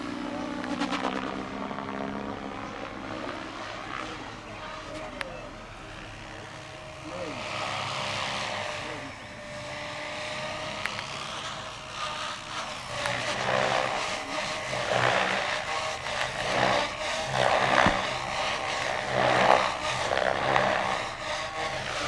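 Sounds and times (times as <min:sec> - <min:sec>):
helicopter rotor blades whooshing: 0:00.0 - 0:22.0
low hum of rotor drivetrain: 0:00.0 - 0:22.0.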